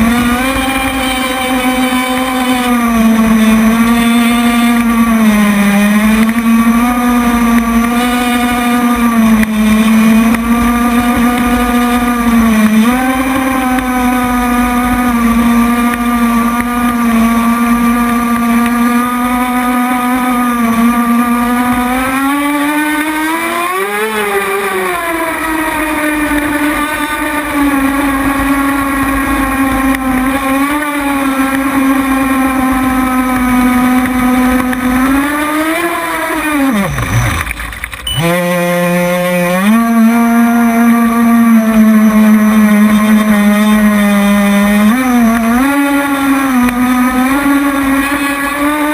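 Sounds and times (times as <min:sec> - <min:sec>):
boat engine high-pitched drone: 0:00.0 - 0:48.9.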